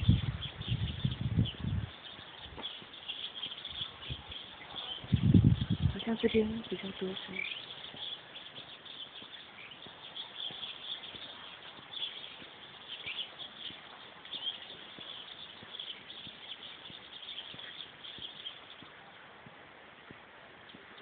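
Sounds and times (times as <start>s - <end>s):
birds chirping: 0.0s - 19.2s, 19.9s - 21.0s.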